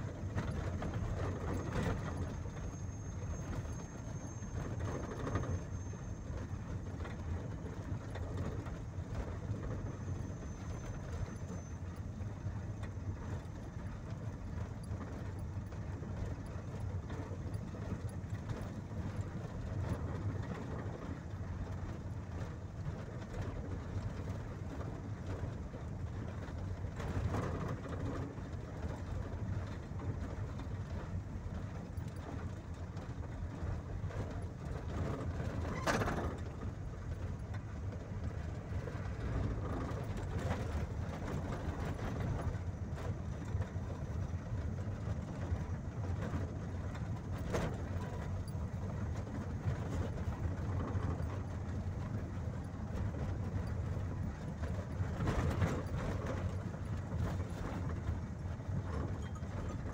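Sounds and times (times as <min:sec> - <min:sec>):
vehicle engine and tyre hum: 0:00.0 - 0:59.9.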